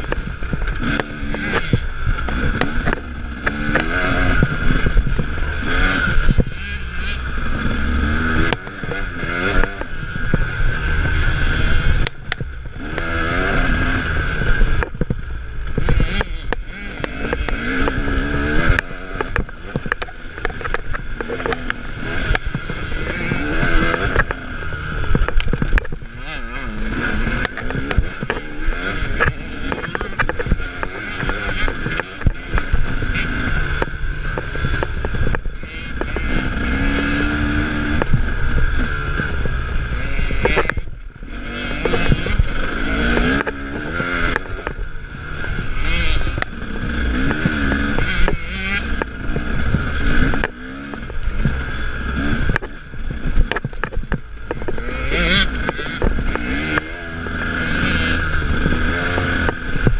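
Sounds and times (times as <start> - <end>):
dirt bike engine revving: 0.0 - 59.9
wind noise: 0.0 - 59.9.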